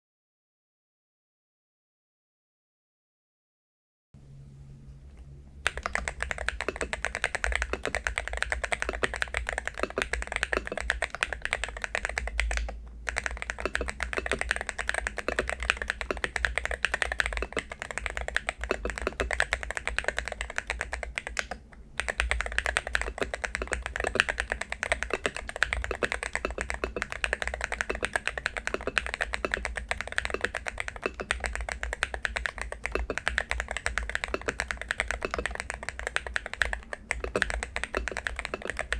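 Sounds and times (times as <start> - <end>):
keyboard key clacks: 5.6 - 38.9.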